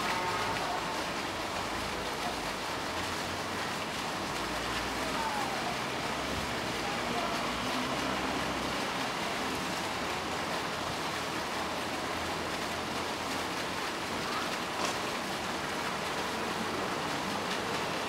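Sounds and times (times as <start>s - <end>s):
faint voices: 0.0s - 18.0s
running water rushing: 0.0s - 18.0s.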